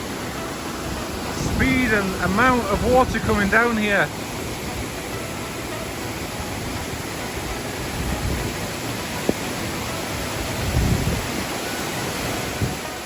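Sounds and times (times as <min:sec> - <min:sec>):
rush of waterfall: 0:00.0 - 0:13.0.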